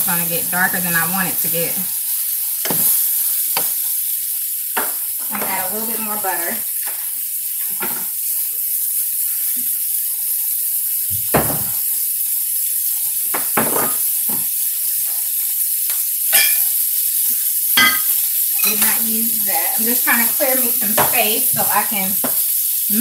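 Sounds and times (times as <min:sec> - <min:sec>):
chicken sizzling in skillet: 0:00.0 - 0:23.0.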